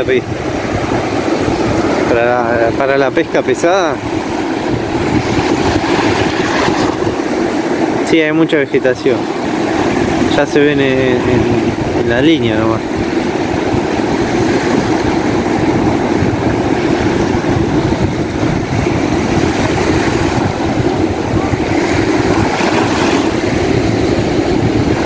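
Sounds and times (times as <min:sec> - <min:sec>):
surf breaking: 0:00.0 - 0:25.0
wind buffeting microphone: 0:00.0 - 0:25.0.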